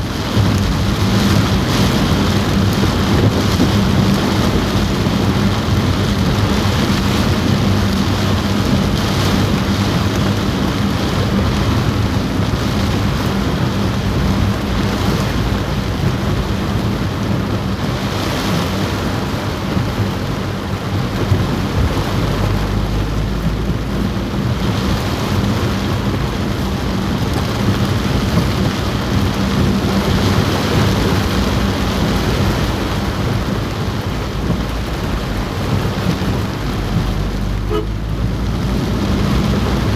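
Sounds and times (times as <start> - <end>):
deep rumble: 0.0 - 39.9
heavy rain on car roof: 0.0 - 39.9.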